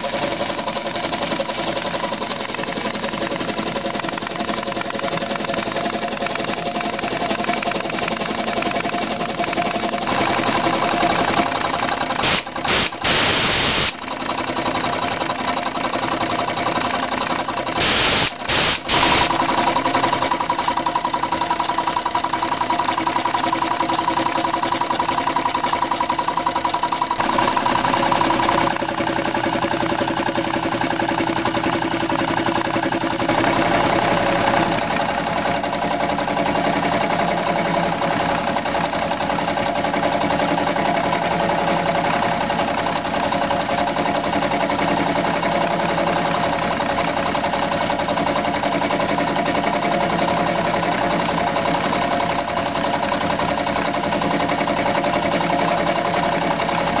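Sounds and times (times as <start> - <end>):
air compressor running: 0.0 - 57.0.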